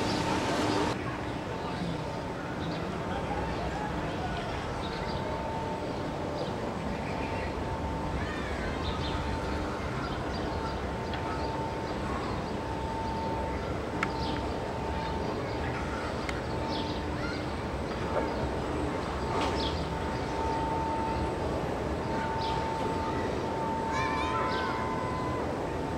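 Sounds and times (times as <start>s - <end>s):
faint continuous hum: 0.0s - 25.9s.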